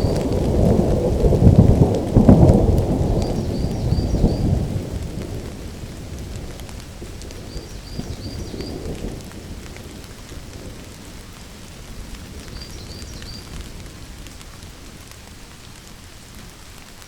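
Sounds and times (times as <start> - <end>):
thunder rumbling: 0.0 - 15.2
steady rain: 0.0 - 17.0.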